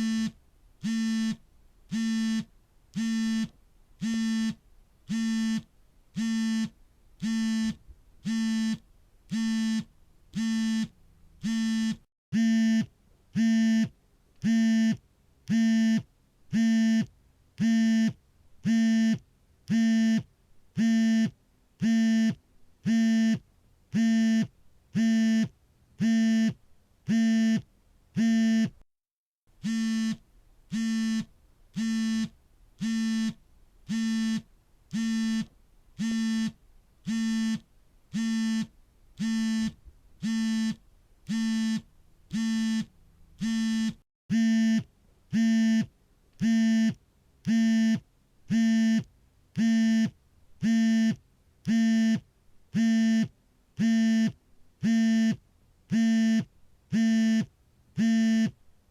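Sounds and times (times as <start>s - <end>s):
phone vibrating: 0.0s - 23.4s, 29.6s - 52.2s, 52.8s - 58.6s.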